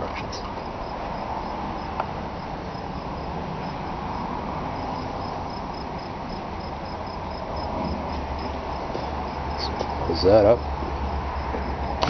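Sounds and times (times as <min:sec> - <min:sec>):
cricket chirping: 0:00.5 - 0:12.0.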